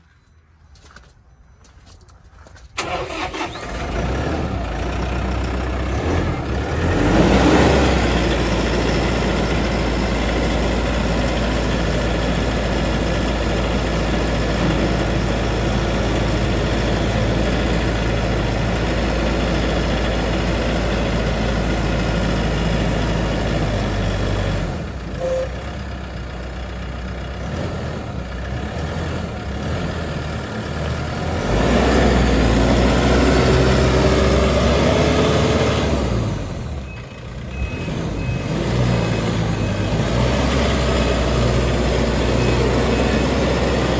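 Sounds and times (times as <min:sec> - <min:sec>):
tractor diesel engine running: 0:02.8 - 0:43.9.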